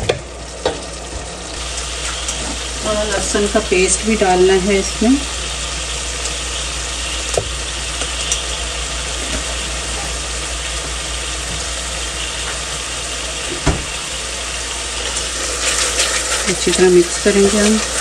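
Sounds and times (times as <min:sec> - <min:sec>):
masala boiling in a pot: 0:00.0 - 0:18.0.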